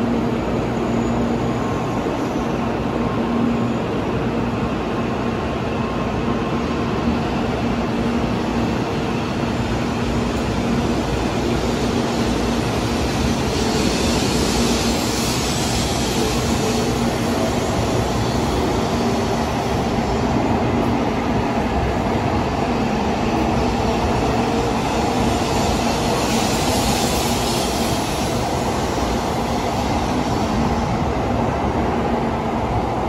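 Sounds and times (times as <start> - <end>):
train hiss: 0.0 - 33.0
train rumble with low hum: 0.0 - 33.0.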